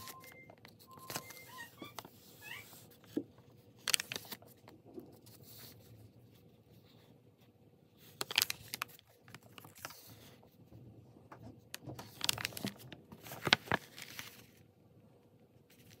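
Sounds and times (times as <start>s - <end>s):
paper pages rustling: 0.0s - 10.6s, 11.4s - 14.6s, 15.6s - 16.0s.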